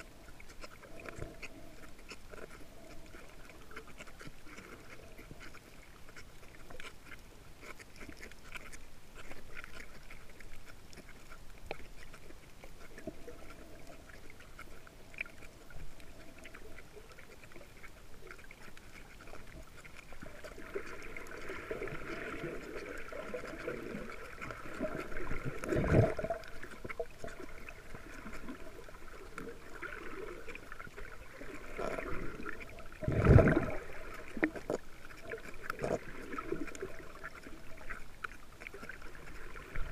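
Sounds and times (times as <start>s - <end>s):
muffled underwater water swishing: 0.0s - 39.9s.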